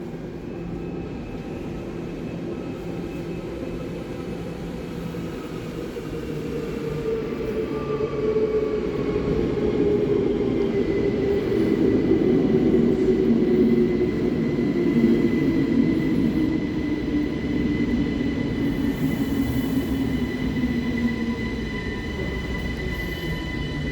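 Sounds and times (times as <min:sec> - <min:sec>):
electric train slowing down: 0:00.6 - 0:23.9.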